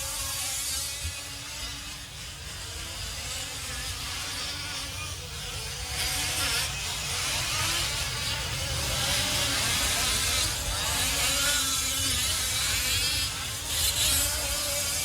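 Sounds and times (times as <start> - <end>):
small two-stroke engines buzzing: 0.0 - 15.0.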